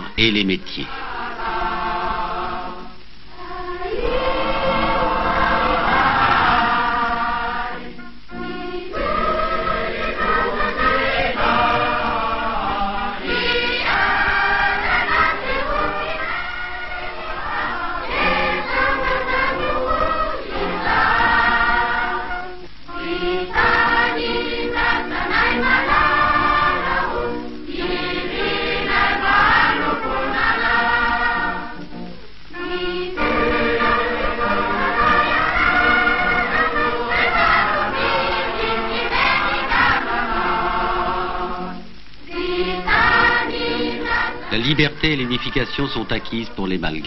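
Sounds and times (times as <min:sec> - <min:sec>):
choir singing: 0:00.0 - 0:47.0.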